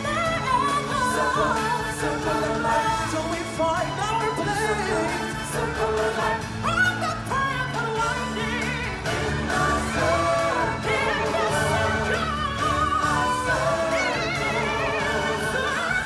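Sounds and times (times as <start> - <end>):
stage music with singing voices: 0.0 - 16.0.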